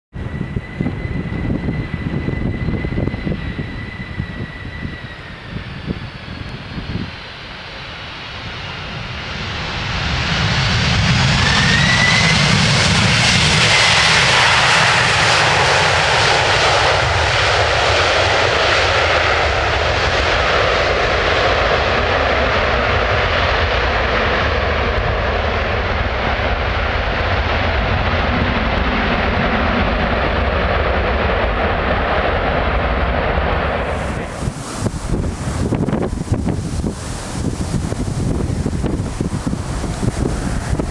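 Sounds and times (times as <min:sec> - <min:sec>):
jet engines in reverse thrust: 0:00.1 - 0:40.9.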